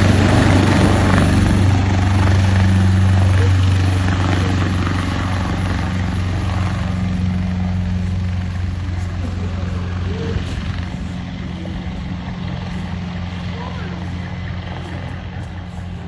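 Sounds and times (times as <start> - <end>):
helicopter rotor hum: 0.0 - 16.0.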